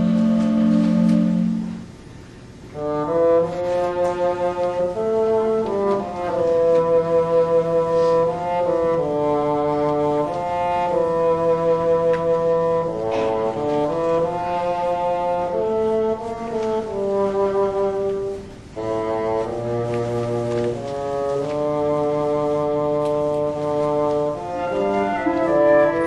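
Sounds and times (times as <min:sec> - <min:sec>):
brass instruments playing chords: 0:00.0 - 0:26.0.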